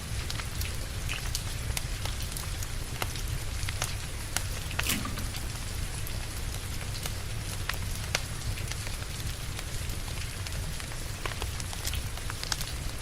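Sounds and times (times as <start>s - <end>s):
rain hiss: 0.0s - 13.0s
wood fire crackling: 0.2s - 13.0s.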